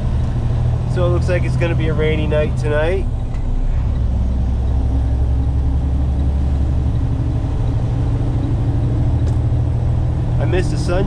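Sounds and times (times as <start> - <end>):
diesel engine running: 0.0 - 11.0
road noise: 0.0 - 11.0.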